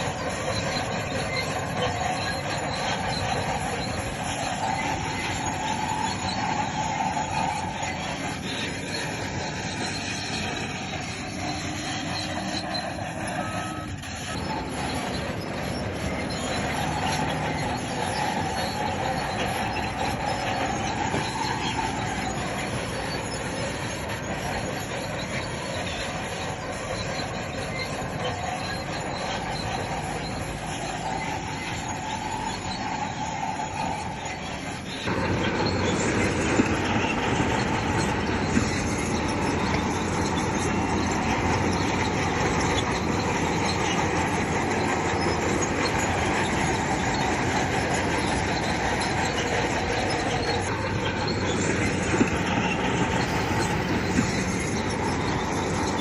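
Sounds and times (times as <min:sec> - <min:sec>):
bulldozer diesel engine: 0:00.0 - 0:56.0
steel tracks clanking: 0:00.0 - 0:56.0
wavering squeal: 0:00.0 - 0:56.0.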